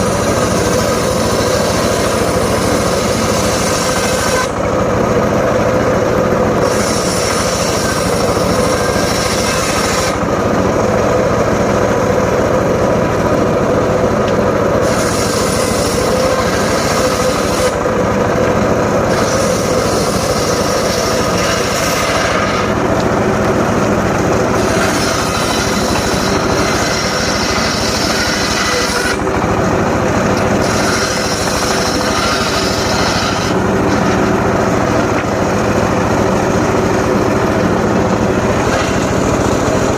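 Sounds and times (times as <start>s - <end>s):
saw blade cutting wood: 0.0s - 13.3s, 13.9s - 39.9s
engine-driven circular saw running: 0.0s - 39.9s.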